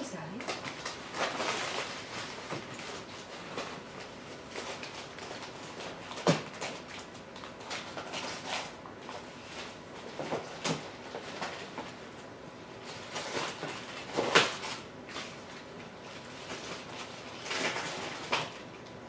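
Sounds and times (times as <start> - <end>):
wrapping paper crinkling and tearing: 0.2 - 19.0.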